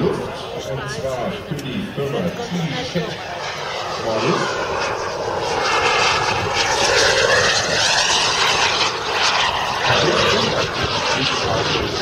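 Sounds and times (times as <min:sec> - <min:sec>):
jet turbine engine rushing: 0:00.0 - 0:12.0.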